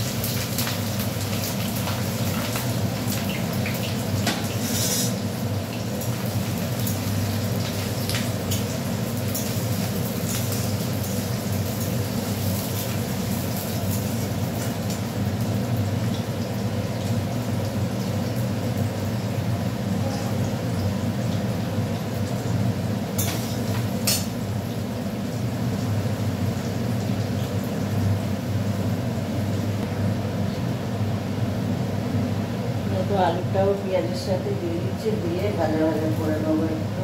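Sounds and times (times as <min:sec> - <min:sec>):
onions frying in oil: 0:00.0 - 0:37.0.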